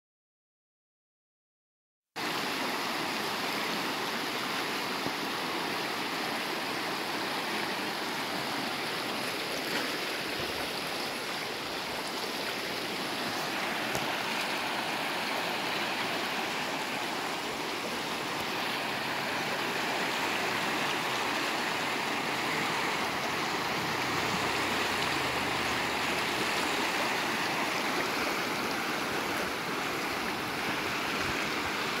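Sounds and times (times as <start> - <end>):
river rushing over stones: 2.2 - 32.0.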